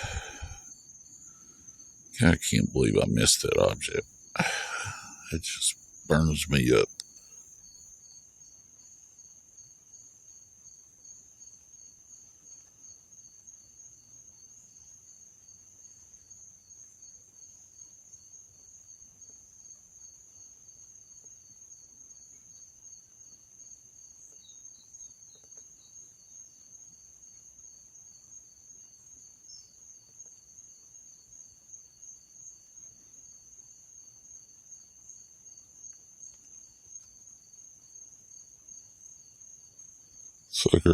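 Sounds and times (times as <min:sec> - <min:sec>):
high-pitched insect trill: 0:00.0 - 0:40.9
lower pulsing insect trill: 0:00.0 - 0:40.9.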